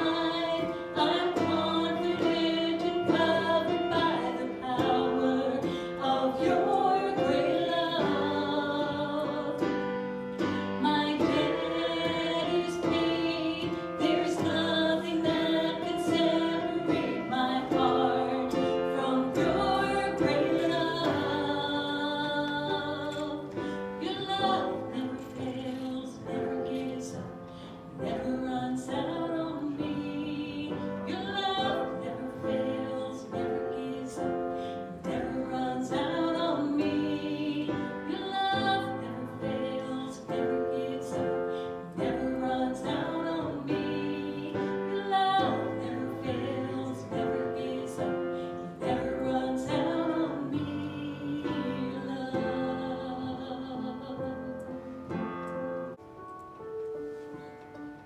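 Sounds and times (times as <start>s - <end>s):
voices singing worship song: 0.0s - 56.0s
instrumental accompaniment: 0.0s - 58.0s.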